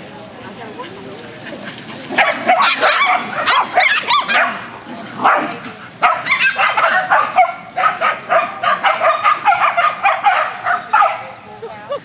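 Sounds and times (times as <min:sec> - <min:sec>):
dogs barking: 0:01.4 - 0:11.4.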